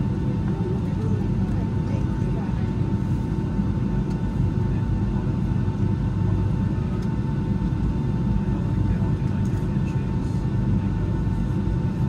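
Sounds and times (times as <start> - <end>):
faint engine whine: 0.0 - 12.0
jet engine rumble: 0.0 - 12.0.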